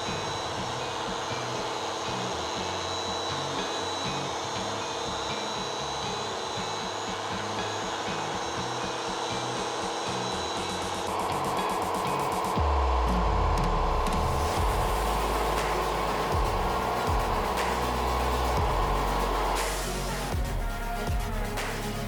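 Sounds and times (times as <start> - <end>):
background music with bass: 0.0 - 22.0
whirring motor: 0.0 - 22.0.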